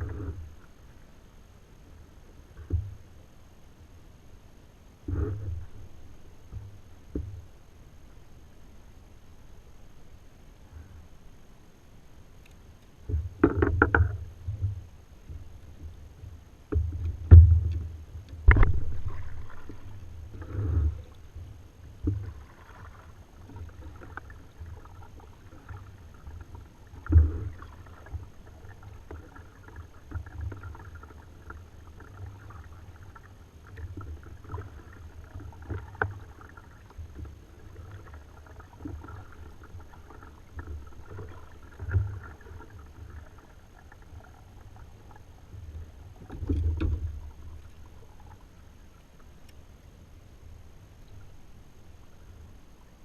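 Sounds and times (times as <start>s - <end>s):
steady low rumble: 0.0s - 53.0s.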